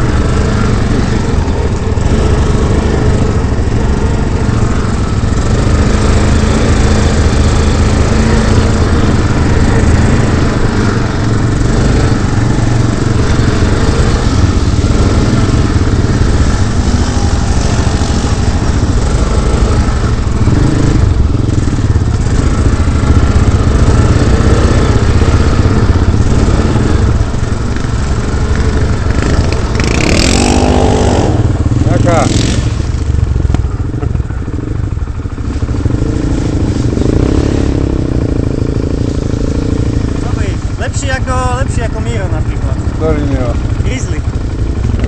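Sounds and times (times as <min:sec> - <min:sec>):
quad bike engine running: 0:00.0 - 0:45.0.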